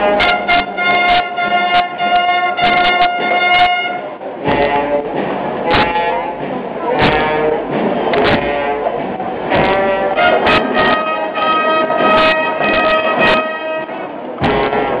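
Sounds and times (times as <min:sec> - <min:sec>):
brass band long held notes: 0:00.0 - 0:15.0
percussion strokes: 0:00.0 - 0:15.0.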